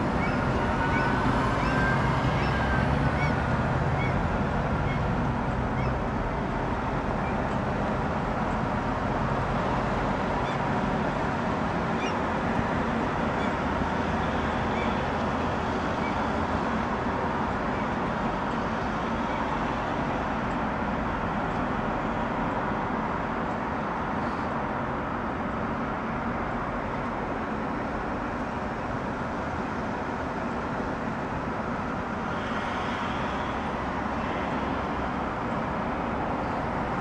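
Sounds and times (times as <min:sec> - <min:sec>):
city street traffic: 0:00.0 - 0:37.0
vehicles passing: 0:00.0 - 0:37.0.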